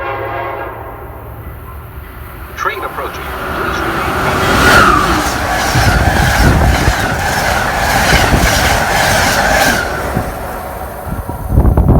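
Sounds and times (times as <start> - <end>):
train wheels clattering: 1.4 - 11.9.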